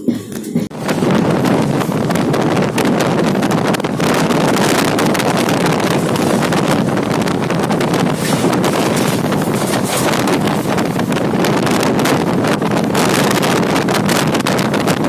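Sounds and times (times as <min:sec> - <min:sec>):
train rumbling: 0:00.0 - 0:15.0
wind buffeting microphone: 0:00.0 - 0:15.0.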